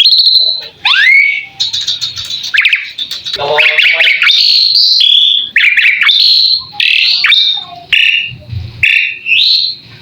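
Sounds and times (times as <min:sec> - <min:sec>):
starling singing whistles and chirps: 0:00.0 - 0:09.9.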